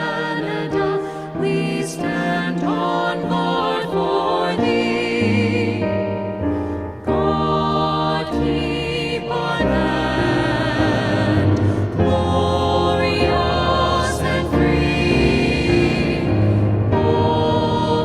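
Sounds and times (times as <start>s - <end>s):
choir-like singing: 0.0s - 18.0s.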